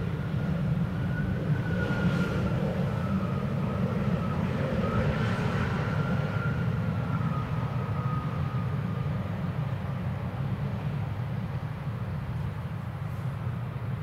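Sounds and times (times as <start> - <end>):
faint high engine whine: 0.0 - 14.0
jet engines rumbling: 0.0 - 14.0.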